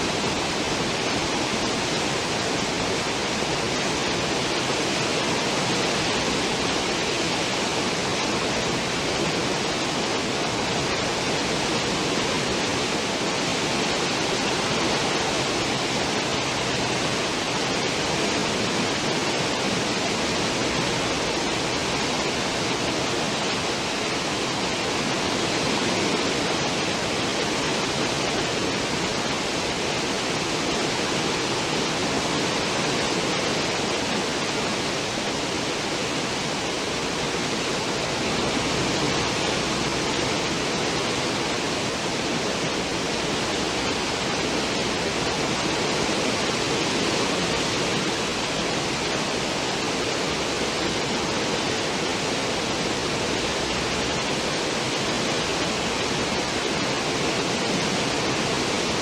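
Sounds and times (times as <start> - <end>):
churning foaming water rushing: 0.0 - 59.0.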